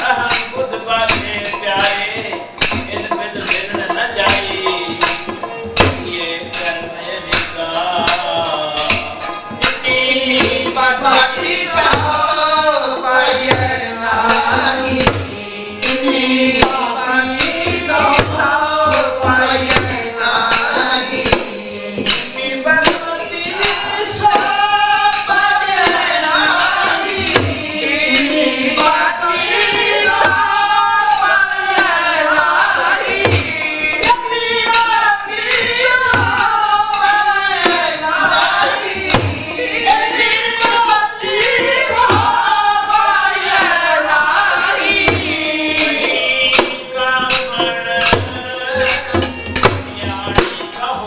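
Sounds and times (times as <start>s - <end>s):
group of voices singing: 0.0s - 51.0s
jingling percussion strikes: 0.0s - 51.0s.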